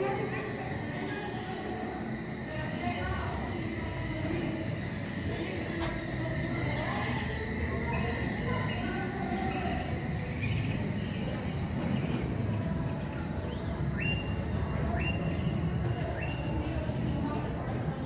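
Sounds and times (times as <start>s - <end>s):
crickets trilling: 0.0s - 18.0s
low background murmur: 0.0s - 18.0s.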